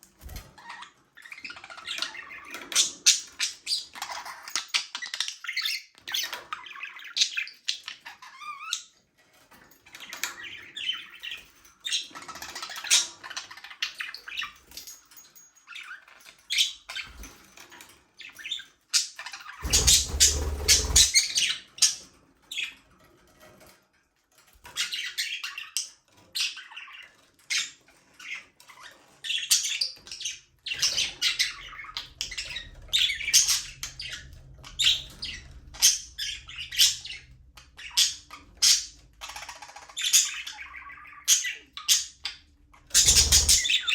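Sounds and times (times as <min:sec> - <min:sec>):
budgerigars chirping and chattering: 0:00.2 - 0:09.0, 0:09.8 - 0:23.7, 0:24.4 - 0:43.9.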